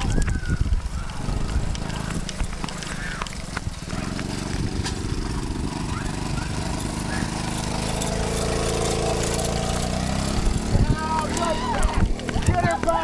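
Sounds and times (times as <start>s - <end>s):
dirt bike engine idling: 0.4s - 13.0s.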